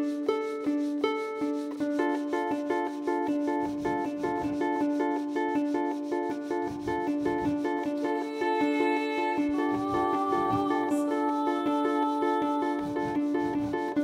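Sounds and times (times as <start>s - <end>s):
concert harp plucking: 0.0s - 14.0s.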